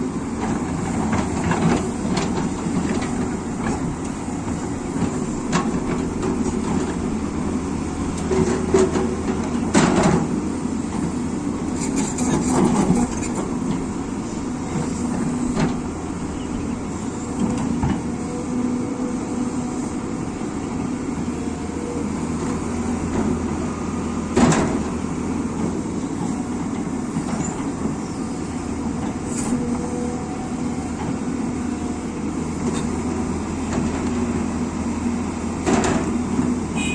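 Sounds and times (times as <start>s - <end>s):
excavator diesel engine: 0.0s - 36.9s.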